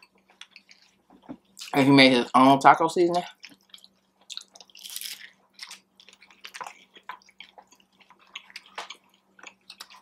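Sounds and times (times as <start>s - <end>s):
person chewing food: 0.0s - 1.8s, 3.1s - 10.0s.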